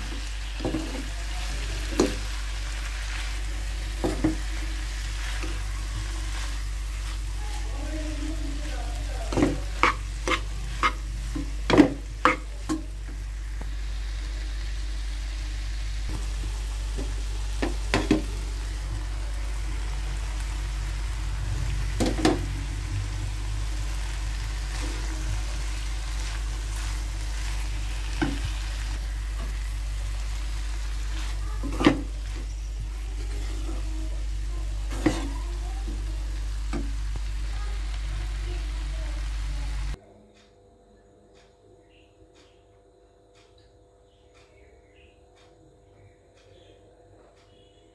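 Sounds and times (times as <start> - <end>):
frying sizzle: 0.0 - 40.0.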